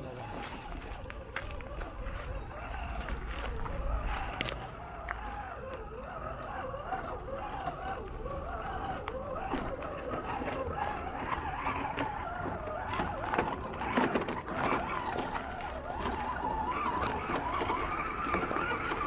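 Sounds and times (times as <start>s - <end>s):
electric motor and gearbox whining: 0.0s - 19.0s
tyres clicking on stones: 0.2s - 19.0s.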